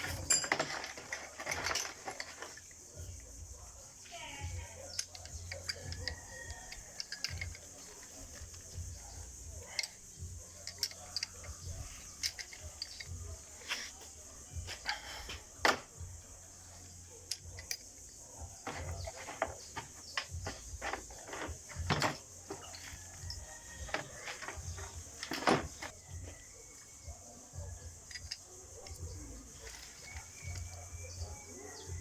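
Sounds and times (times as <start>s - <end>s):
metal tools clicking and knocking: 0.0s - 3.4s, 4.2s - 13.9s, 14.5s - 26.8s, 27.6s - 32.0s
steady high hiss: 0.0s - 32.0s.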